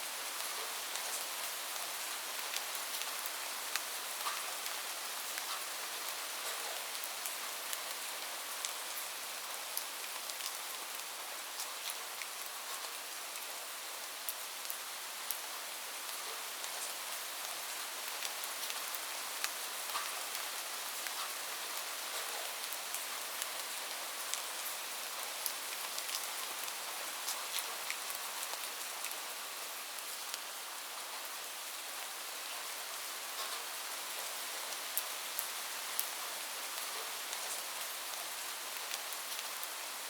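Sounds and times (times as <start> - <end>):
rain on a roof: 0.0 - 40.0.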